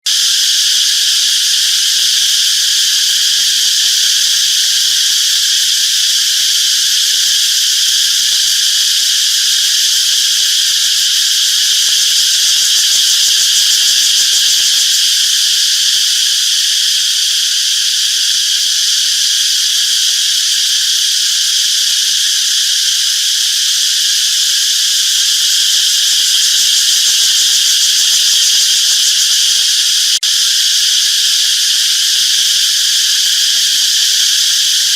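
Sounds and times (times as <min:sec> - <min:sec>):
insects singing: 0:00.0 - 0:34.9.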